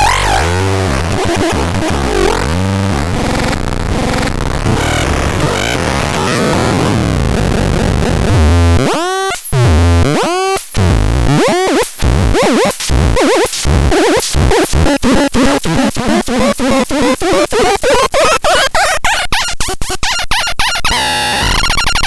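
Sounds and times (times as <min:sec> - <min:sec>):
harsh noisy synthesizer texture: 0:00.0 - 0:19.4, 0:20.0 - 0:22.0.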